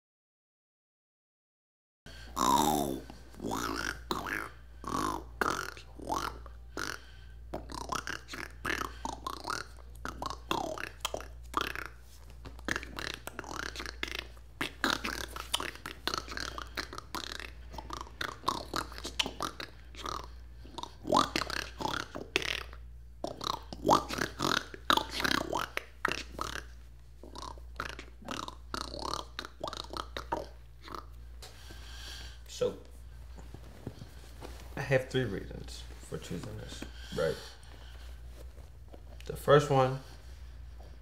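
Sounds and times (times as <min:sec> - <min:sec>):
steady low hum: 0:02.1 - 0:41.0.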